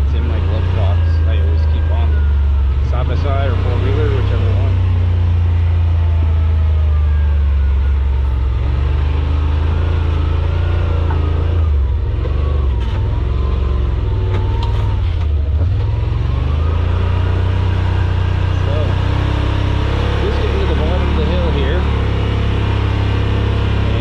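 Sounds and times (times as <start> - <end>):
utility vehicle engine droning: 0.0 - 24.0.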